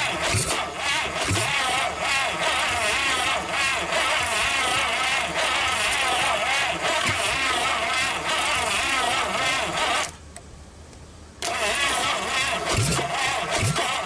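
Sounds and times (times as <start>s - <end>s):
engine turning over: 0.0s - 10.2s, 11.4s - 14.0s
unmuffled engine running rough: 0.0s - 10.3s, 11.4s - 14.0s.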